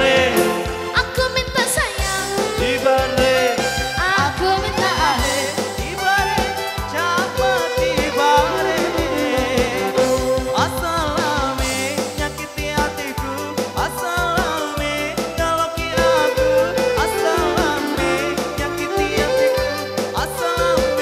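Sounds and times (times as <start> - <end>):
pop song with steady beat: 0.0 - 21.0.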